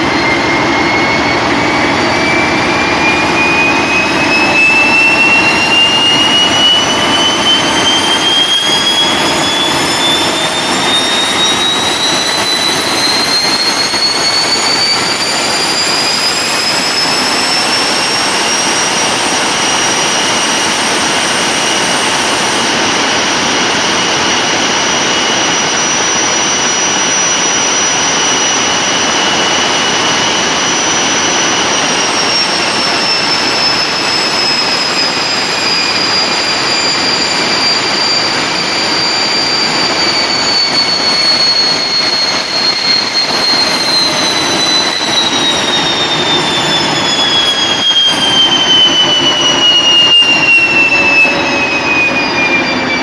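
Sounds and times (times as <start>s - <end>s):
diesel locomotive engine running: 0.0s - 53.0s
turbocharger whistling: 0.0s - 53.0s.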